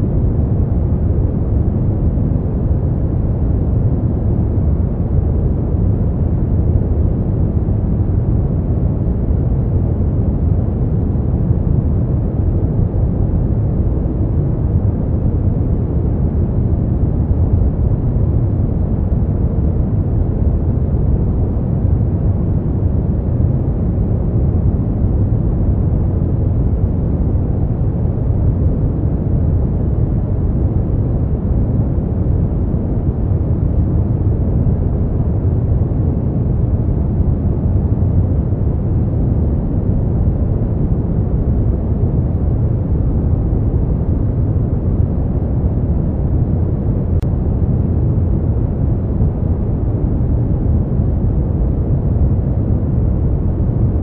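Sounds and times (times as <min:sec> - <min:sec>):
deep muffled noise rush: 0:00.0 - 0:54.0.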